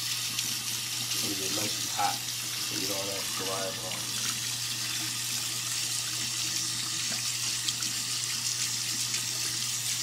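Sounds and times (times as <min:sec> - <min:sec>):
water running from tap: 0:00.0 - 0:10.0.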